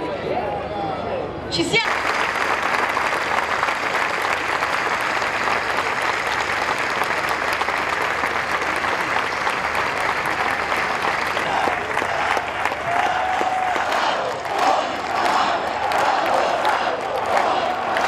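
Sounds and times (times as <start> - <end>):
large crowd applauding: 1.8 - 18.0.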